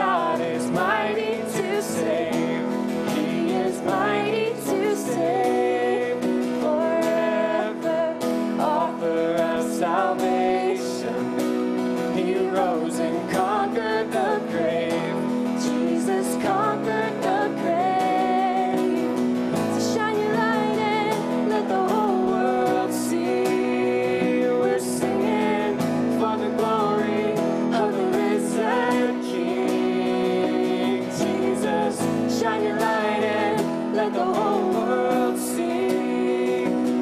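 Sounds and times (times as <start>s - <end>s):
man singing: 0.0s - 19.2s, 20.0s - 37.0s
held keyboard chords: 0.0s - 37.0s
strummed acoustic guitar: 0.0s - 37.0s.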